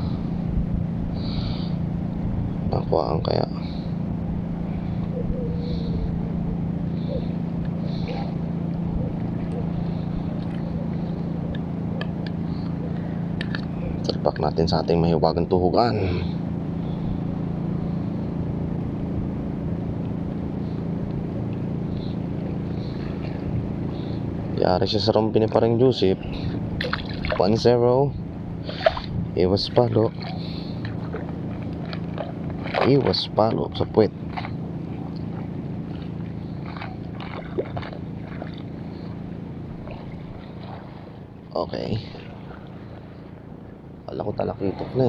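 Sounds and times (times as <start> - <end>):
motorboat engine running: 0.0 - 45.0.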